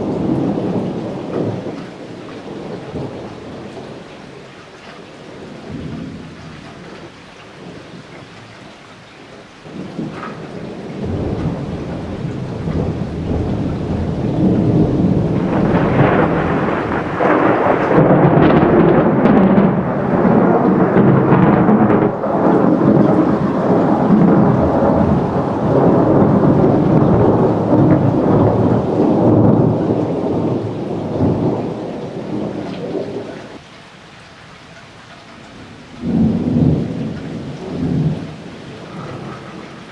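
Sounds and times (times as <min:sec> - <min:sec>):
thunder rolling rumble: 0:00.0 - 0:04.5, 0:05.3 - 0:08.4, 0:09.6 - 0:33.6, 0:35.5 - 0:39.9.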